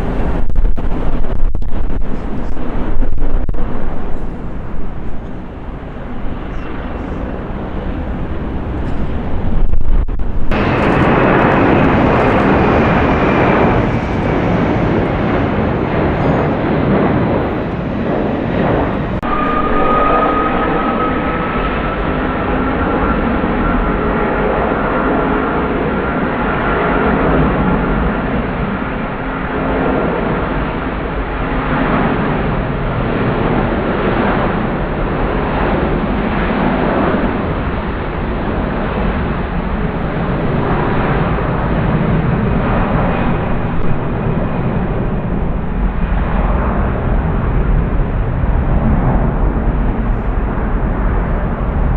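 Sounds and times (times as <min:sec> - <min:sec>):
jet engines roaring with whine: 0:00.0 - 0:51.9.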